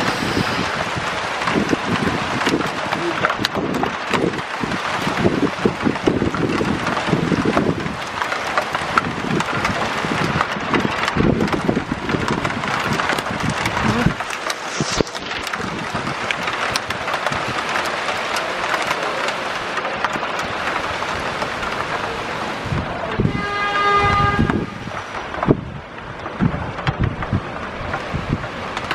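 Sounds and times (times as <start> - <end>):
rain falling: 0.0 - 28.9
wind rumble on microphone: 0.0 - 28.9.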